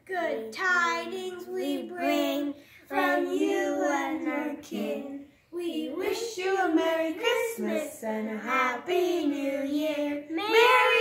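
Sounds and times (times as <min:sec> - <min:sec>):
woman and children singing: 0:00.0 - 0:11.0.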